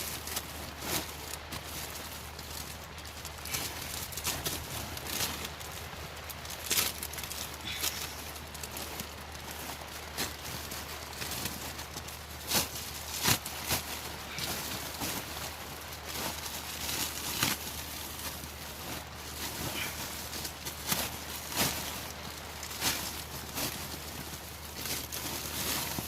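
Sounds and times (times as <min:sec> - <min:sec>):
plastic duct rustling and crinkling: 0:00.0 - 0:26.0.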